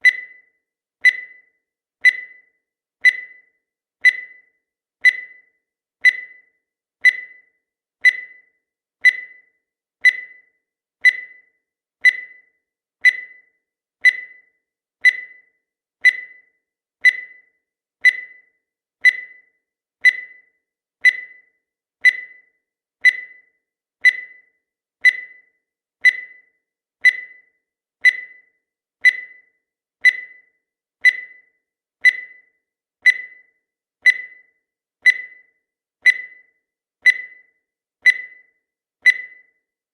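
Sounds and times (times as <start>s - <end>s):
timer beeping: 0.0s - 39.8s.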